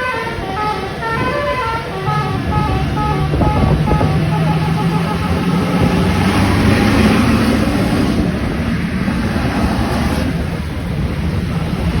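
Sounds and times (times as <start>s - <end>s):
vehicle passing close by: 0.0s - 12.0s.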